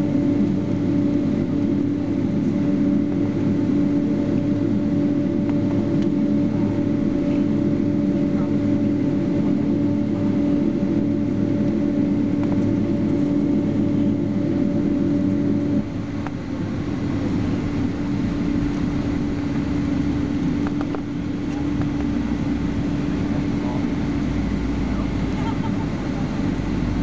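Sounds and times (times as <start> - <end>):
airliner cabin engine hum: 0.0 - 27.0.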